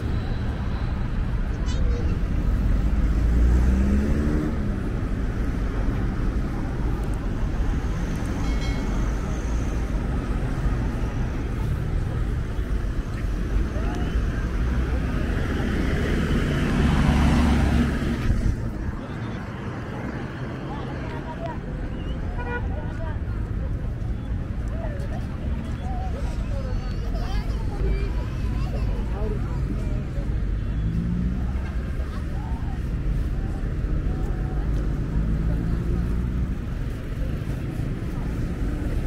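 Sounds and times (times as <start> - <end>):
bus passing: 0.0 - 39.0
road traffic driving past: 0.0 - 39.0.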